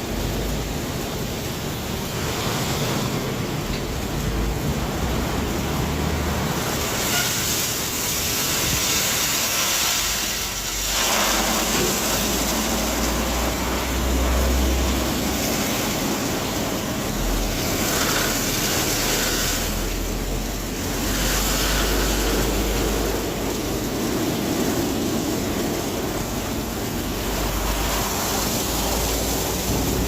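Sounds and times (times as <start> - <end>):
water and air spraying: 0.0 - 30.0.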